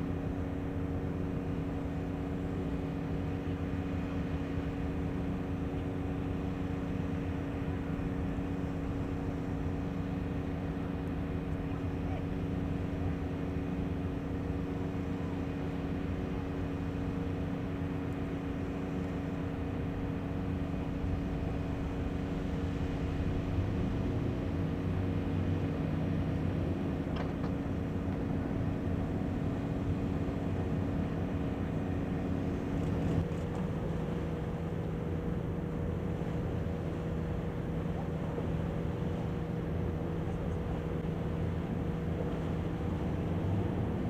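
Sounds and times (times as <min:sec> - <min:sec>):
ship machinery hum: 0:00.0 - 0:44.0.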